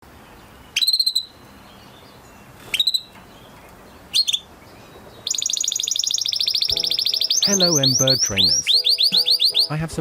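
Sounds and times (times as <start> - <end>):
canary singing with rapid trills: 0.7 - 10.0.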